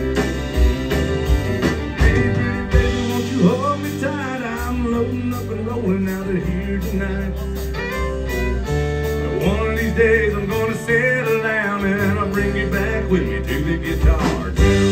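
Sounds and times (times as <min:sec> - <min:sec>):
fiddle: 0:00.0 - 0:05.0, 0:05.8 - 0:14.9
country band playing: 0:00.0 - 0:14.9.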